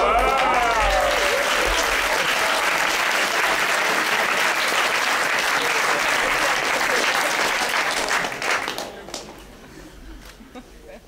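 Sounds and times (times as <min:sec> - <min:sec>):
audience applause: 0:00.0 - 0:09.8.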